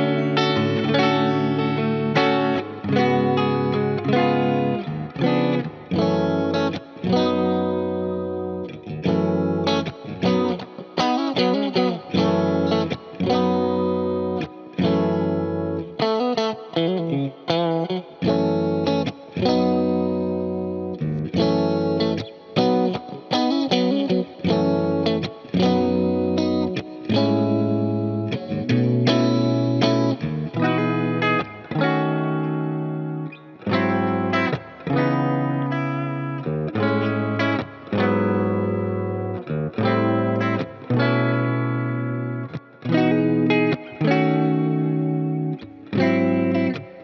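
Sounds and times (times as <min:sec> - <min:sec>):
electric guitar chords: 0:00.0 - 0:47.0.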